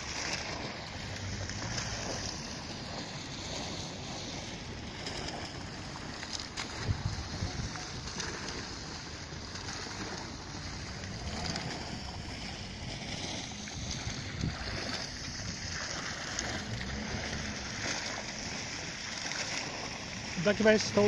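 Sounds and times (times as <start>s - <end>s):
wind buffeting microphone: 0.0s - 20.4s
fountain jet splashing: 0.0s - 21.0s.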